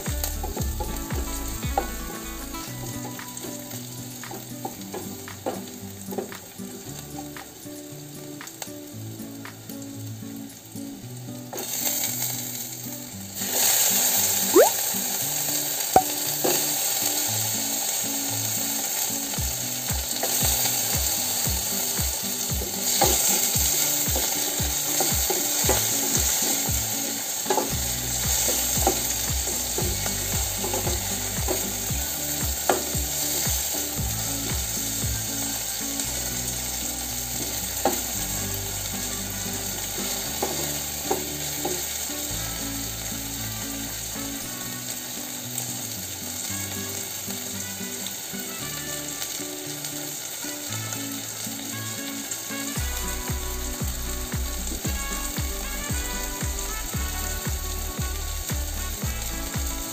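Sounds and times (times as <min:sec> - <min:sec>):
vegetables sizzling in hot oil: 0:00.0 - 0:59.9.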